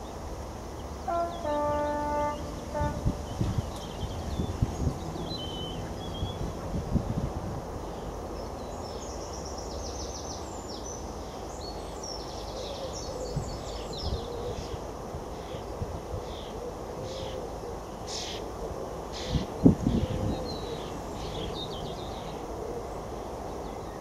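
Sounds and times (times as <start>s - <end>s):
songbirds chirping: 0.0s - 6.8s, 7.6s - 24.0s.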